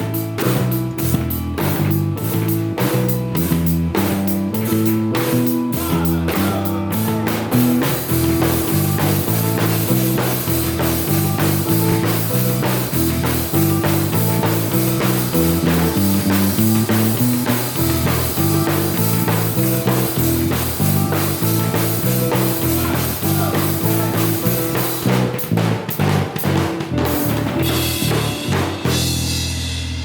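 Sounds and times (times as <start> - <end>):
bass line: 0.0 - 30.0
drum kit beat: 0.0 - 30.0
guitar: 0.0 - 30.0.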